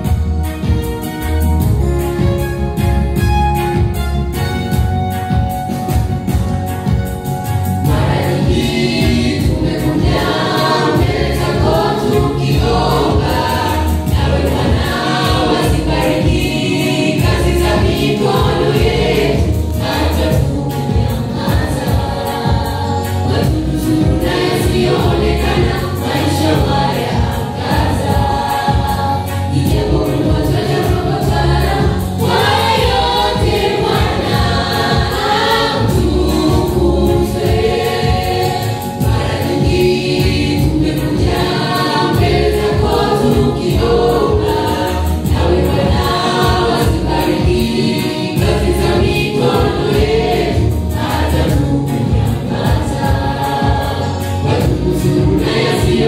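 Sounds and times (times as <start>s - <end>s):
choir singing gospel song: 0.0s - 56.0s.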